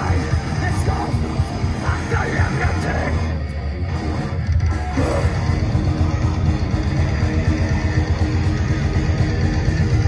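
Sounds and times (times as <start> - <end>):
metal band playing live: 0.0 - 10.0.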